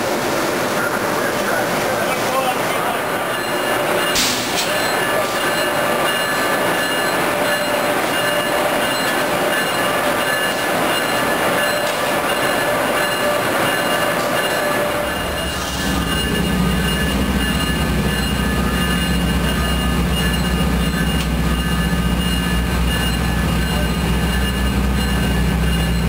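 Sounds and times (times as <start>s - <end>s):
locomotive hiss and rumble: 0.0s - 26.0s
high whining tones: 2.8s - 26.0s.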